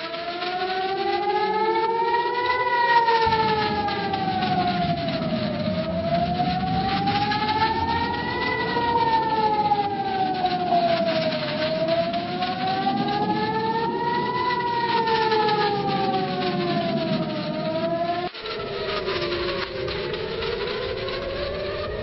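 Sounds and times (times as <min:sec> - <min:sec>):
wailing alarm siren: 0:00.0 - 0:22.0.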